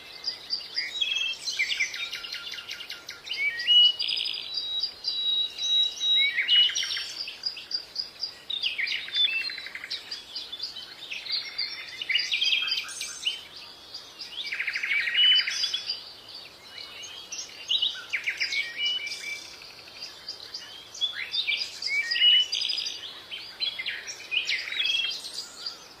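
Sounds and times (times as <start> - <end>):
birds singing and chirping: 0.0 - 26.0.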